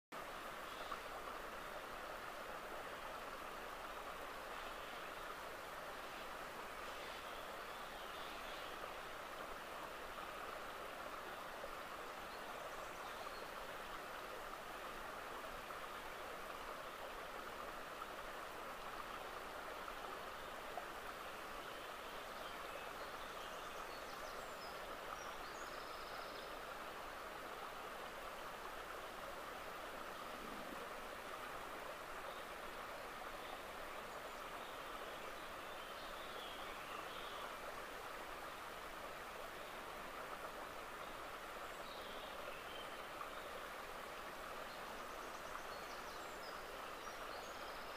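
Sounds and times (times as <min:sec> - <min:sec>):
faint flowing water: 0:00.1 - 0:47.9.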